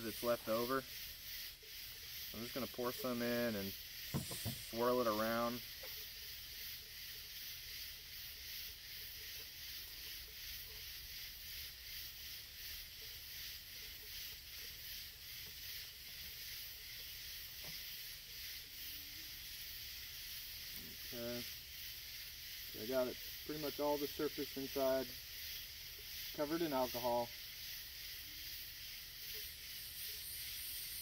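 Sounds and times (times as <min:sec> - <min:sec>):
insects chorus pulsing: 0:00.0 - 0:31.0.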